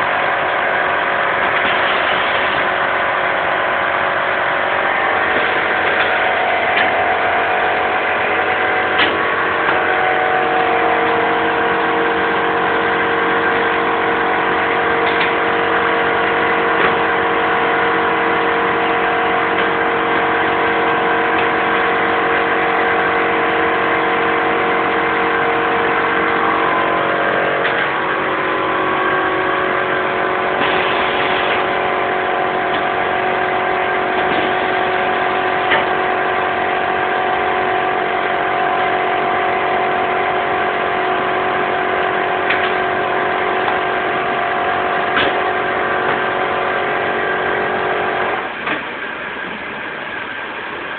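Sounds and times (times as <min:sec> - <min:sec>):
packaging machine humming: 0:00.0 - 0:50.9.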